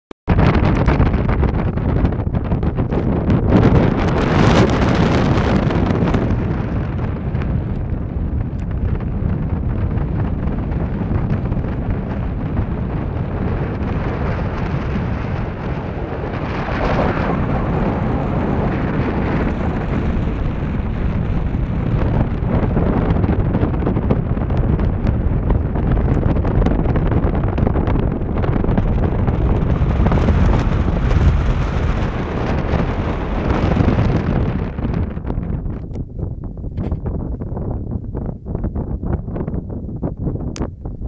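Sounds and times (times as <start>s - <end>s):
wind buffeting microphone: 0.3s - 41.0s.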